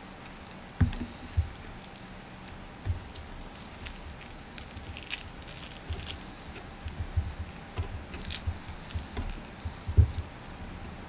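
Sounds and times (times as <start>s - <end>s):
squishes and rustles of meat: 0.2s - 11.0s.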